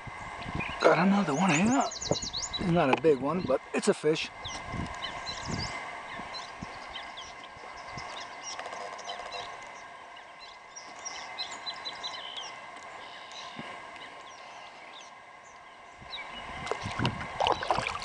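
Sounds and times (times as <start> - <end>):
songbirds chirping and whistling: 0.0 - 18.0.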